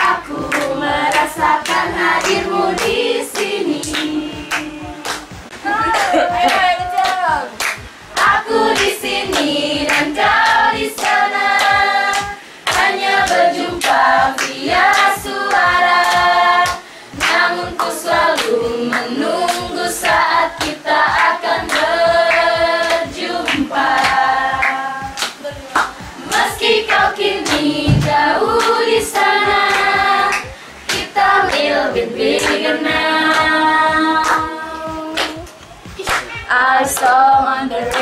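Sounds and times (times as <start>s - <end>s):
women singing without instruments: 0.0s - 7.6s, 8.2s - 35.6s, 36.5s - 38.0s
hands clapping: 0.0s - 33.6s, 34.2s - 37.2s.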